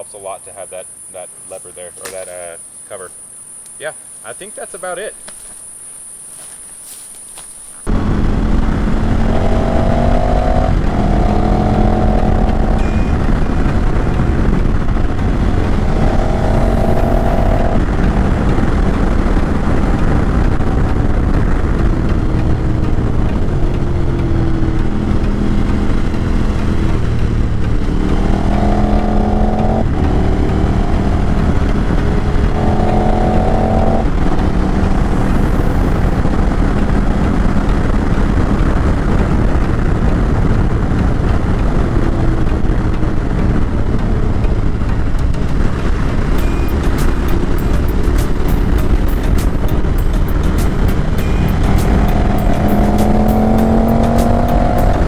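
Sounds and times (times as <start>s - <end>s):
wind noise: 6.9s - 55.0s
motorcycle engine revving: 7.8s - 55.0s.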